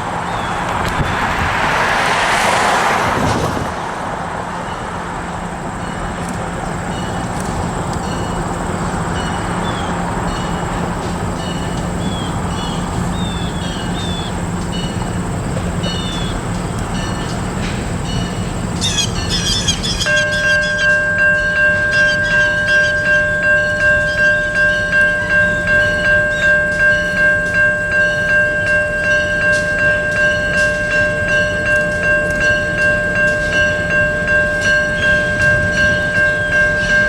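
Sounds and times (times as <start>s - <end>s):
diesel locomotive droning: 0.0s - 37.0s
road vehicle passing: 0.0s - 37.0s
train rumble: 0.0s - 37.0s.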